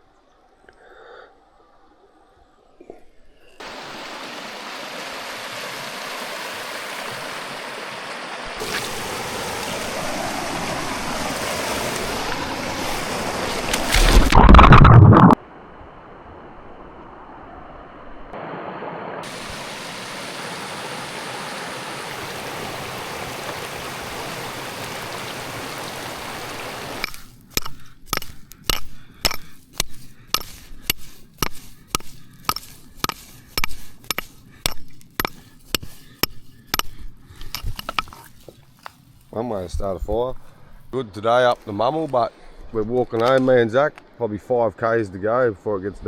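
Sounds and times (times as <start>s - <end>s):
creek water running: 3.6s - 15.4s, 18.3s - 44.4s.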